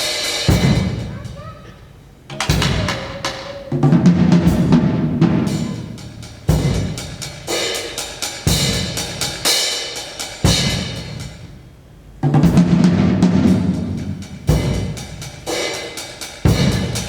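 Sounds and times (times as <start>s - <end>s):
percussion ensemble drumming: 0.0s - 11.6s, 12.2s - 17.0s.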